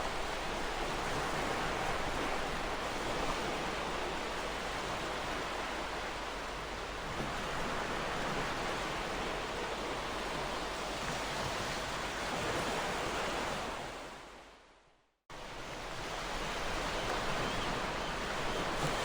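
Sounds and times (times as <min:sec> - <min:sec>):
ocean waves washing on shore: 0:00.0 - 0:14.4, 0:15.3 - 0:19.0.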